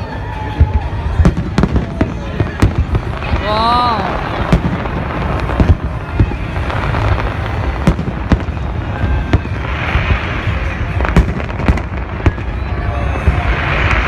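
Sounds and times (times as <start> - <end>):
distant fireworks rumble: 0.0 - 14.0
fireworks bangs: 0.0 - 14.0
fireworks crackling hiss: 0.0 - 14.0.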